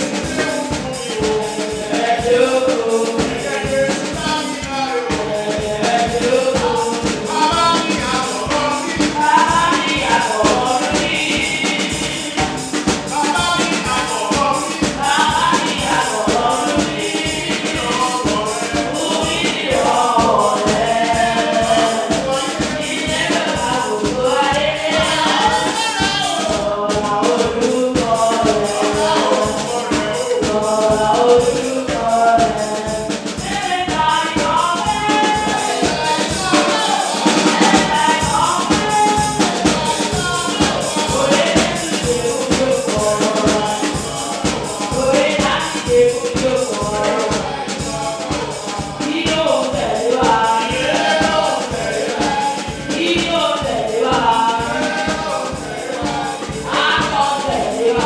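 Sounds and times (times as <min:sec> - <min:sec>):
drums beating: 0:00.0 - 0:58.0
group singing gospel song: 0:00.0 - 0:58.0.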